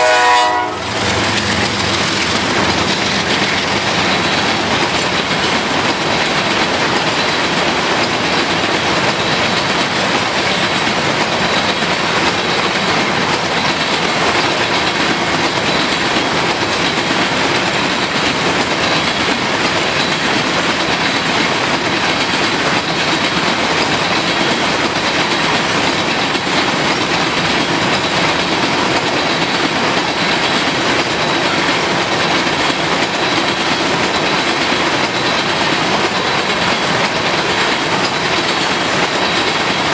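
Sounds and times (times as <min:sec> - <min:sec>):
steel train wheels on rail: 0:00.0 - 0:39.9.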